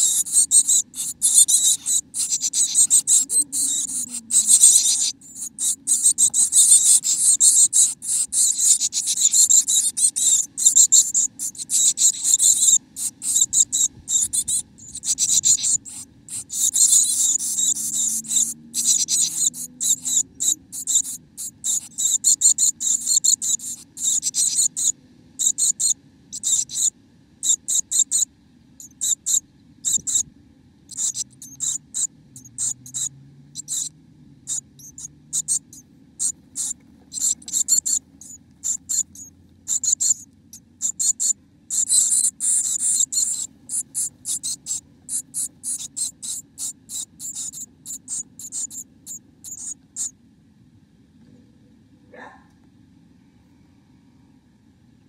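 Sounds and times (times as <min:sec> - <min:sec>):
chickadees scratchy high calls: 0:00.0 - 0:30.2, 0:30.9 - 0:33.9, 0:34.5 - 0:50.1.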